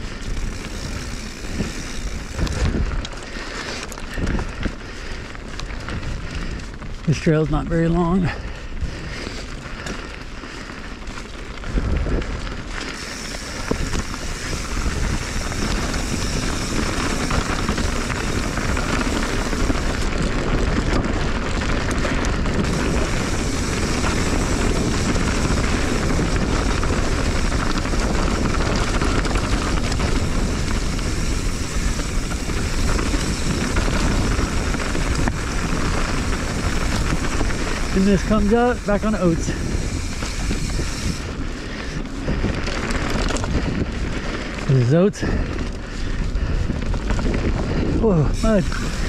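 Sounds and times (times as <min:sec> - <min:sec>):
bike rattling: 0:00.0 - 0:49.0
bike tyres rolling on dirt: 0:00.0 - 0:49.0
wind buffeting microphone: 0:00.0 - 0:49.0.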